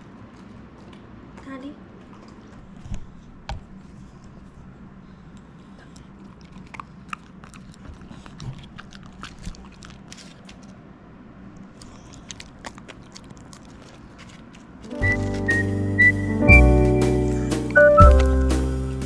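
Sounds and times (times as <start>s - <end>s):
dog chewing and crunching food: 0.0s - 16.1s.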